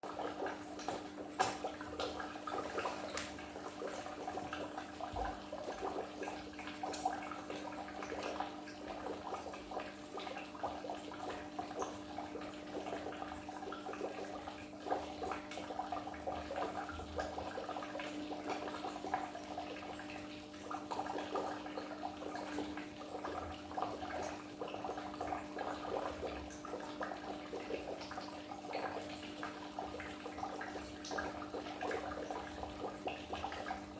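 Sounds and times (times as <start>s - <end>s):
aquarium water bubbling and splashing: 0.0s - 33.9s.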